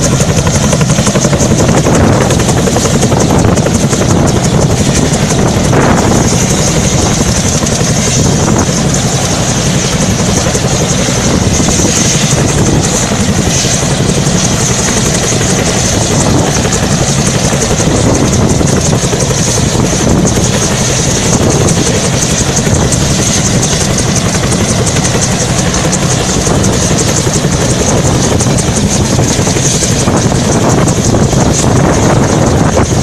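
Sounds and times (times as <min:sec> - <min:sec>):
helicopter rotor chop: 0:00.0 - 0:33.0.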